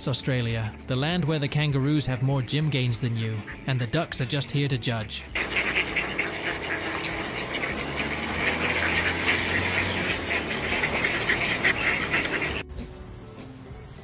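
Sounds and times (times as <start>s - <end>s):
ducks quacking: 0.3s - 12.7s.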